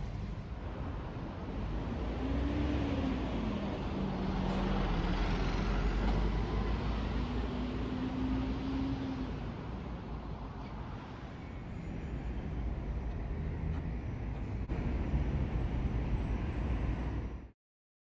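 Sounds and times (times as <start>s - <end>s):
bus passing: 0.0s - 17.5s
city street traffic: 0.0s - 17.6s.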